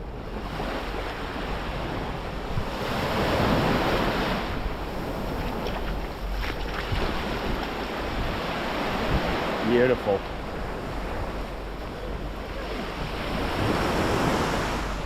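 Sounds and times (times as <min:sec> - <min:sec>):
sea waves breaking on beach: 0:00.0 - 0:15.0
wind buffeting microphone: 0:00.0 - 0:15.0.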